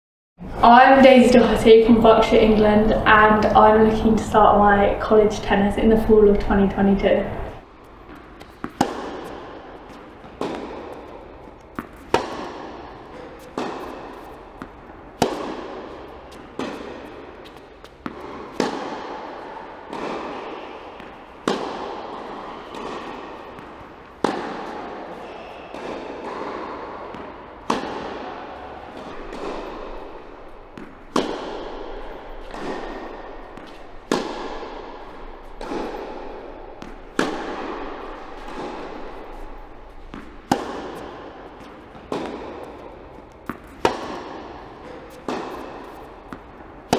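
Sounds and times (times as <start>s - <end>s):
racket hitting tennis ball: 1.9s - 46.9s.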